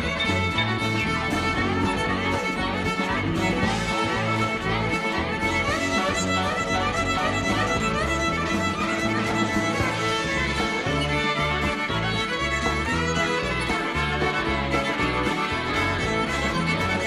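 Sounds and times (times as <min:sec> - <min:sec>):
bass guitar: 0:00.0 - 0:17.0
electric guitar: 0:00.0 - 0:17.0
fiddle playing quick runs: 0:00.0 - 0:17.0.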